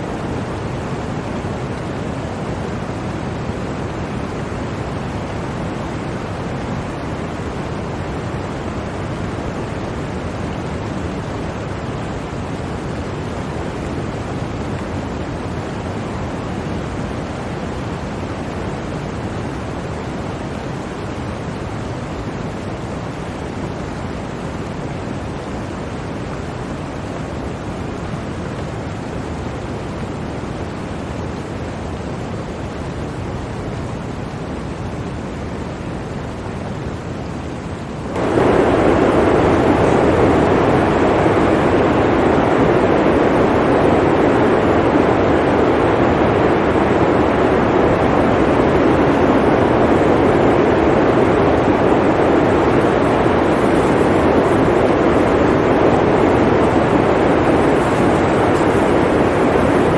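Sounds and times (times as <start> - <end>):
blizzard wind: 0.0 - 59.9.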